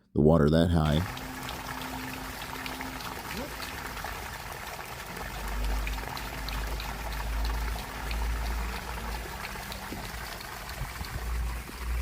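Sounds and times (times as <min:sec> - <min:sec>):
water pouring from pump discharge: 0:00.8 - 0:12.0.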